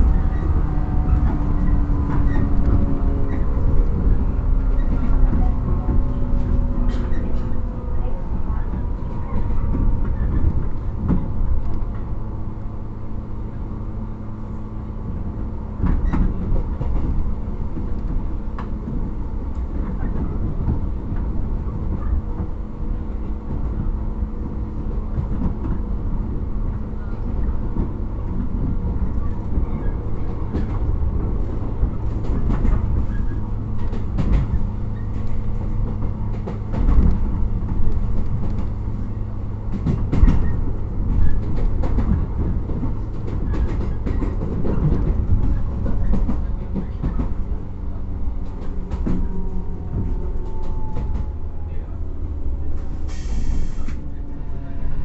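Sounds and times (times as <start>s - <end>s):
rail joint clicks: 0.0s - 55.0s
train motor hum and rumble: 0.0s - 55.0s.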